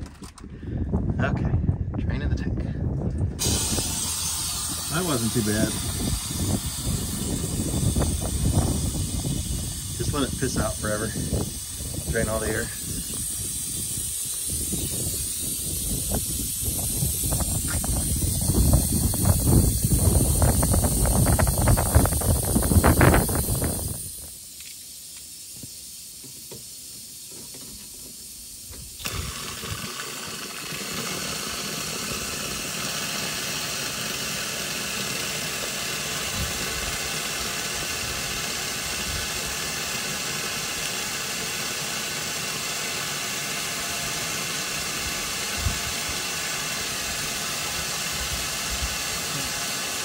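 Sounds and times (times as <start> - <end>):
compressed air hissing from valve: 3.4 - 50.0.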